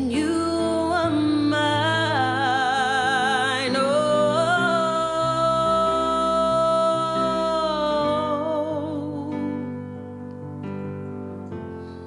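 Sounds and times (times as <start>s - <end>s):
person singing: 0.0s - 9.9s.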